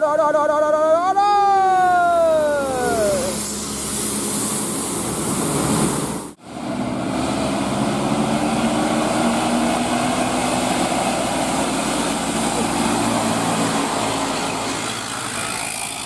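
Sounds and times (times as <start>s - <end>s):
road and traffic noise: 1.0s - 16.0s
vehicle engine running: 2.0s - 16.0s.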